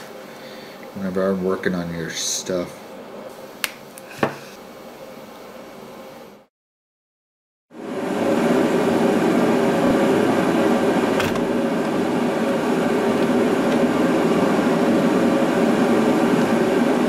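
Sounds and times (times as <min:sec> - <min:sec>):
blower fan whir: 0:00.0 - 0:06.5, 0:07.7 - 0:17.0.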